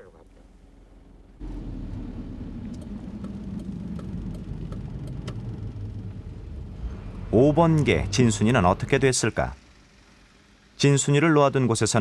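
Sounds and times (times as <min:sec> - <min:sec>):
road rumble: 0:00.0 - 0:10.8
car engine running: 0:00.3 - 0:12.0.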